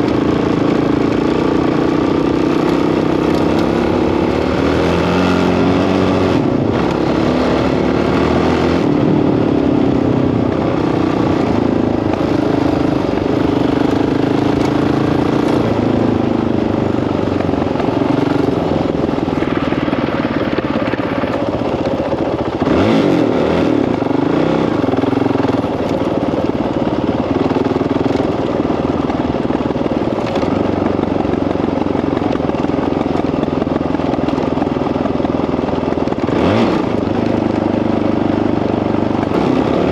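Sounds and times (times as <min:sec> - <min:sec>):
dirt bike engine revving: 0:00.0 - 0:31.0, 0:36.0 - 0:38.5, 0:39.1 - 0:39.9.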